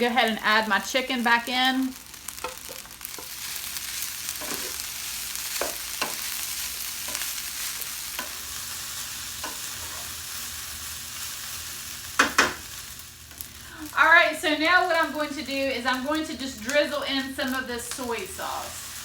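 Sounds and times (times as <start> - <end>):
rice sizzling in oil: 0.0 - 19.0.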